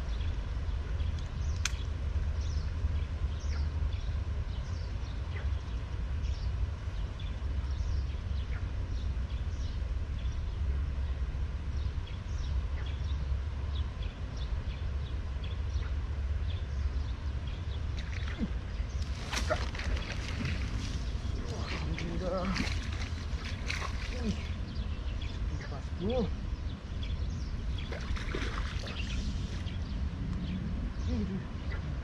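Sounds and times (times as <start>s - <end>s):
wind on microphone rumble: 0.0s - 32.0s.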